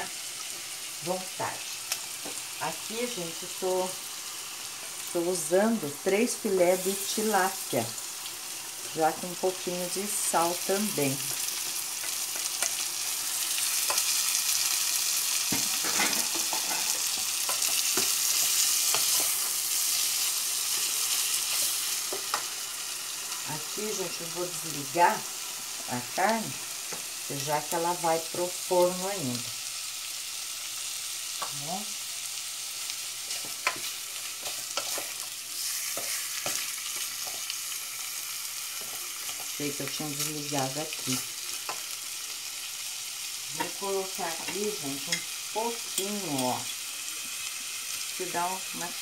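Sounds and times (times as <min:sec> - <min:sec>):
fish sizzling in a pot: 0:00.0 - 0:49.0.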